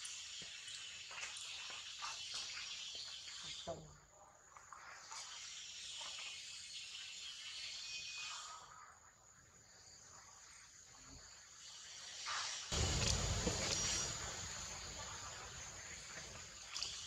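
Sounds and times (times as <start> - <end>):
insect chorus hissing: 0.0 - 17.0.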